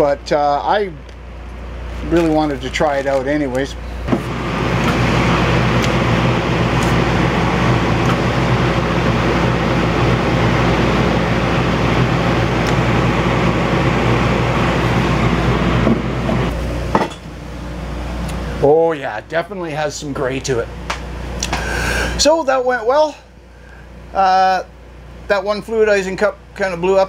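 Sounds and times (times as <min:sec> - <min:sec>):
exhaust fan low hum: 0:00.0 - 0:27.0.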